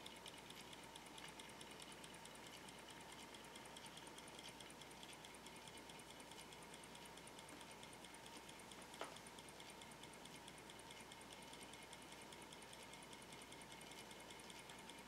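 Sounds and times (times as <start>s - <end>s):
small engine ticking: 0.0s - 15.0s.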